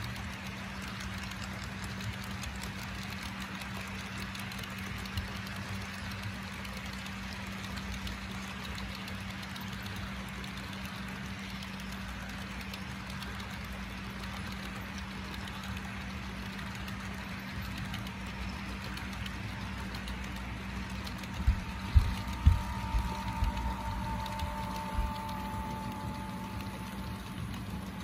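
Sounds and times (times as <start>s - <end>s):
model train rumble and hum: 0.0s - 28.0s
wheels clicking on rails: 0.0s - 28.0s.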